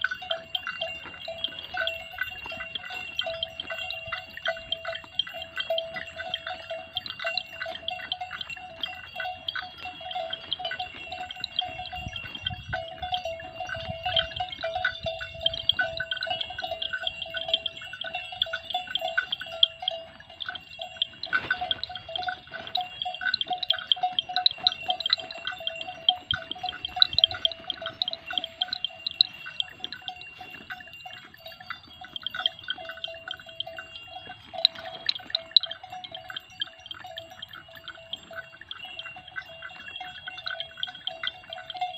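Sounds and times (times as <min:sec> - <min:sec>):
cattle bells clanking: 0:00.0 - 0:41.9.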